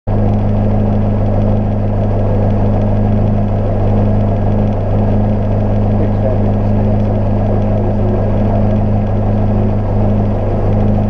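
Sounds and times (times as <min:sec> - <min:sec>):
aircraft engine and propeller droning: 0:00.1 - 0:11.0.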